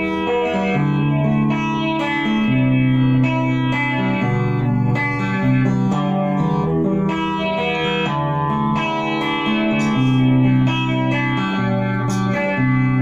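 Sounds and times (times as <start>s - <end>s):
electric guitar notes and chords: 0.0s - 13.0s.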